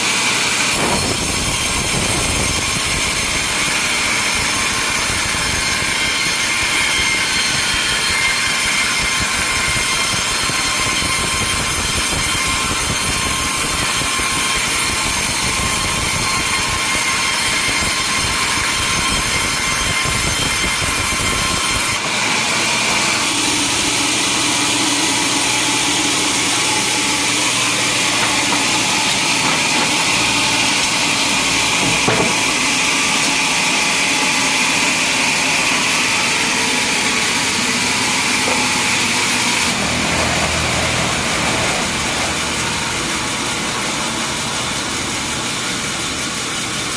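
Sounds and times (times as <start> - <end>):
saw cutting through log: 0.0 - 46.9.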